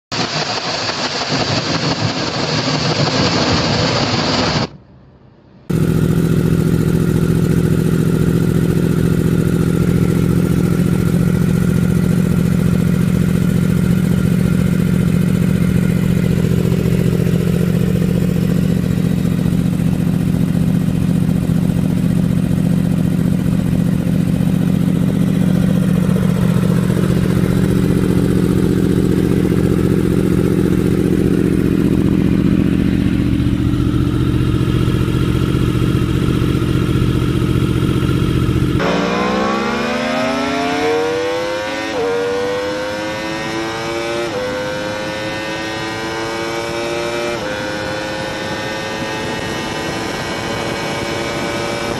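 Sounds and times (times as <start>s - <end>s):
motorcycle engine running: 5.7s - 51.9s.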